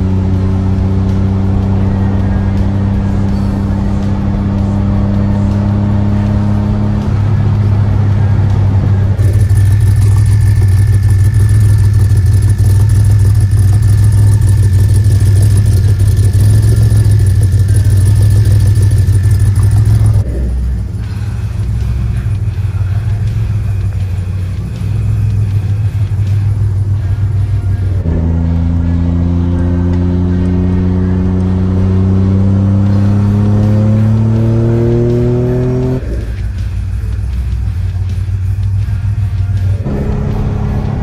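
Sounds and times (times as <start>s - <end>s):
car engine drone: 0.0s - 41.0s
car exhaust at tailpipes: 0.0s - 41.0s.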